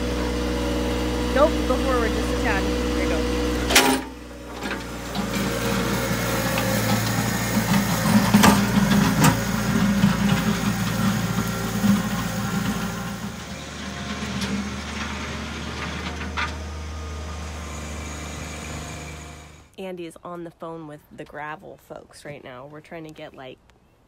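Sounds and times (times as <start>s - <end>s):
blade dragging over dirt: 0.0s - 19.7s
tractor diesel engine running: 0.0s - 19.7s.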